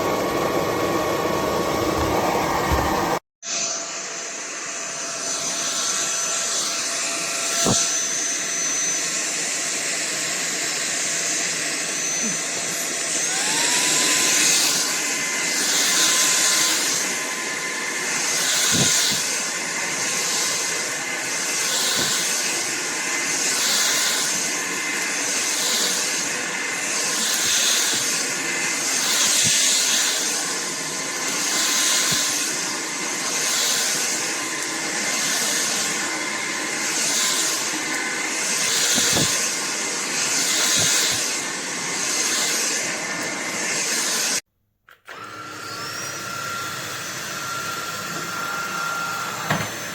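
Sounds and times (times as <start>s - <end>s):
stick vacuum running: 0.0s - 49.9s.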